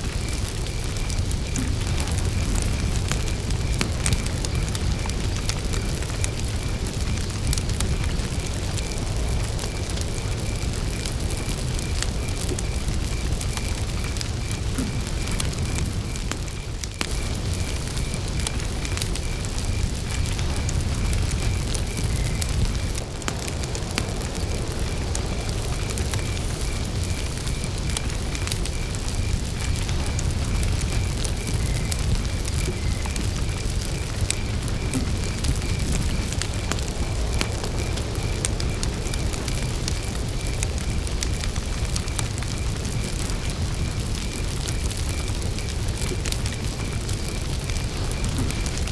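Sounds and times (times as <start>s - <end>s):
campfire crackling and popping: 0.0s - 48.9s
cricket chirping: 0.0s - 48.9s.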